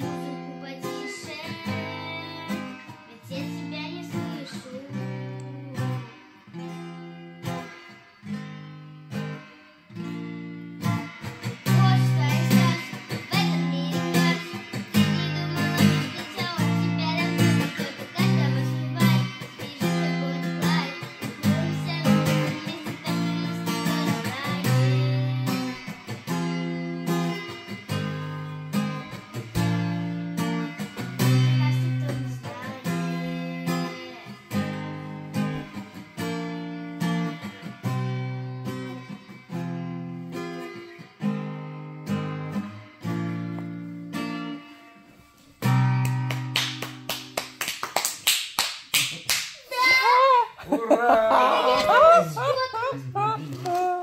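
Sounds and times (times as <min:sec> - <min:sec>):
acoustic guitar strumming: 0:00.0 - 0:47.6, 0:51.2 - 0:54.0.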